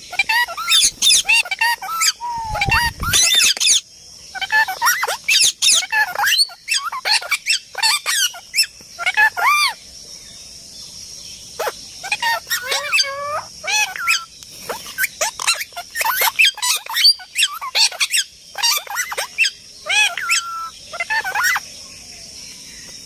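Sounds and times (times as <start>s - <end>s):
parrot squawking and chattering: 0.0s - 9.8s, 11.6s - 21.6s.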